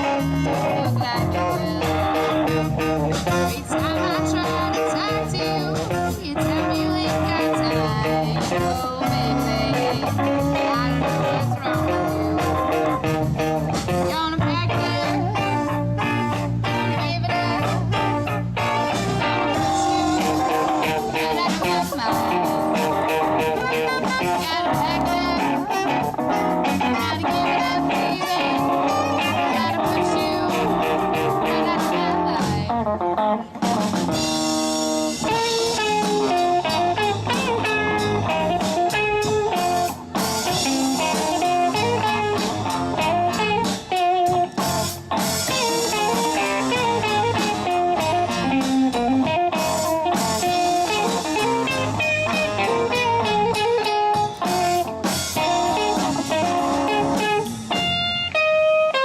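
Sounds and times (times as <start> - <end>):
bass: 0.0 - 59.0
drum kit: 0.0 - 59.0
electric guitar: 0.0 - 59.0.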